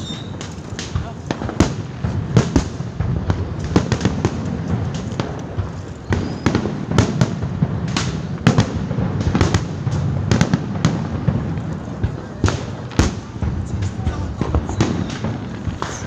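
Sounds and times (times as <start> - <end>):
fireworks bangs and cracks: 0.0 - 16.0
rumble of distant explosions: 0.0 - 16.0.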